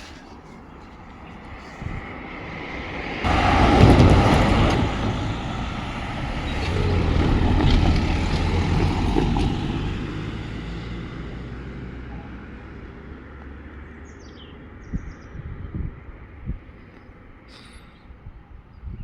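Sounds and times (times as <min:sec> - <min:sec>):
vehicle passing by: 0:00.9 - 0:16.6.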